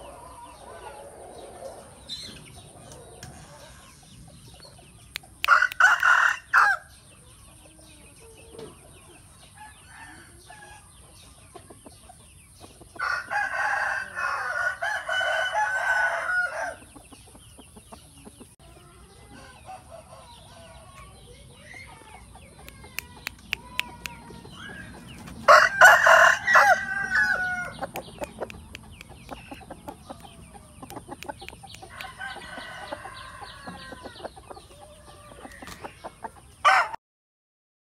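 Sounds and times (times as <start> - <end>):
roosters crowing: 0.0 - 4.3, 5.3 - 7.0, 8.1 - 11.0, 13.0 - 17.0, 19.1 - 37.0
chicken clucks: 0.0 - 6.2, 7.1 - 37.0.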